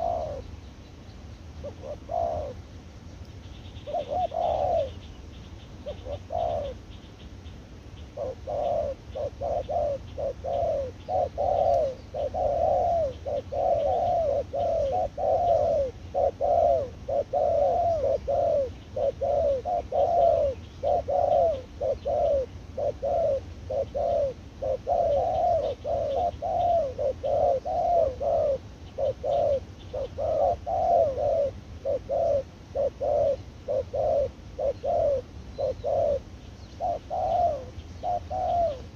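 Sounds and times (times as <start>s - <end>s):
doves cooing: 0.0s - 0.6s, 1.6s - 2.7s, 3.8s - 5.1s, 5.7s - 7.0s, 8.0s - 38.9s.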